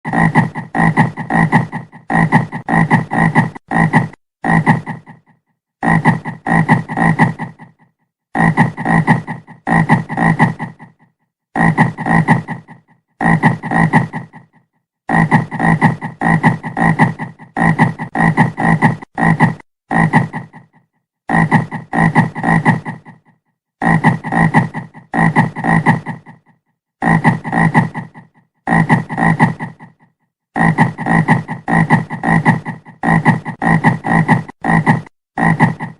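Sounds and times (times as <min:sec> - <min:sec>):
frog croaking: 0:00.1 - 0:07.8, 0:08.4 - 0:30.0, 0:30.6 - 0:35.9.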